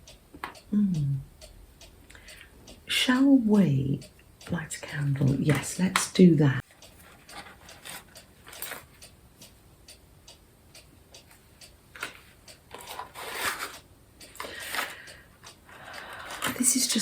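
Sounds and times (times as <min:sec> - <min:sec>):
steady light ticking: 0:00.0 - 0:17.0.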